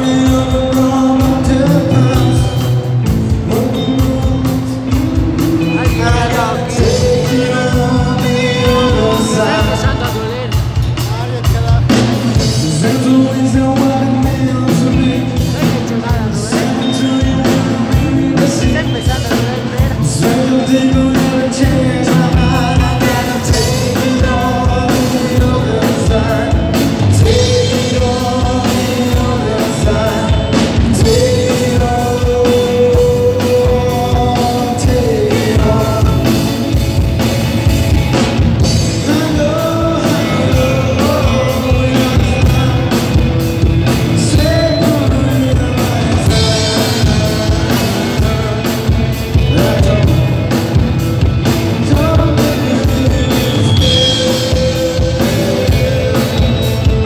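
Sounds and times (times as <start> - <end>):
bass guitar: 0.0 - 57.0
drum kit: 0.0 - 57.0
electric guitars: 0.0 - 57.0
lead vocal singing: 0.0 - 57.0.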